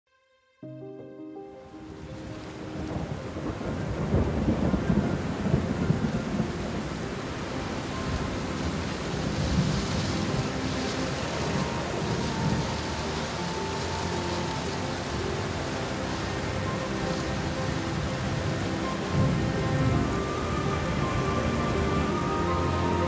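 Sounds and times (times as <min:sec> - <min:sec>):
steady rain: 0:01.6 - 0:23.0
thunder rumbling: 0:02.0 - 0:23.0.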